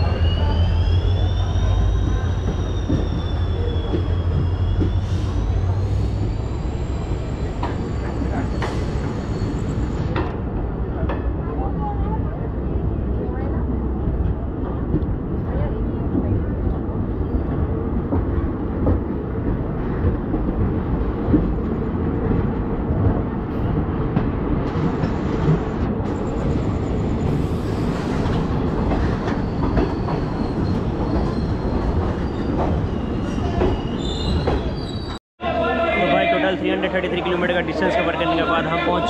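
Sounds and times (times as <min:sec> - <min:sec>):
train wheels rumbling on rails: 0:00.0 - 0:35.2.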